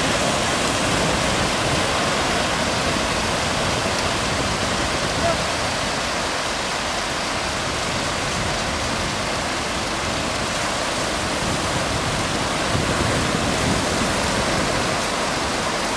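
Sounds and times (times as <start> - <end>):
surf breaking on beach: 0.0 - 15.9.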